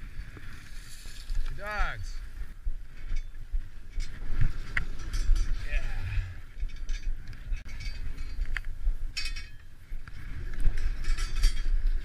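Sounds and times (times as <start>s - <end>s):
sled clinking and rattling: 0.0s - 12.0s
sled runners scraping snow: 0.0s - 12.0s.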